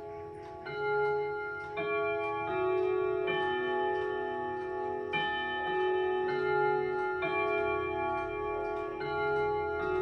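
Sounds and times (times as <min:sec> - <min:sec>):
clock chiming a melody: 0:00.0 - 0:10.0
clock ticking: 0:00.0 - 0:10.0.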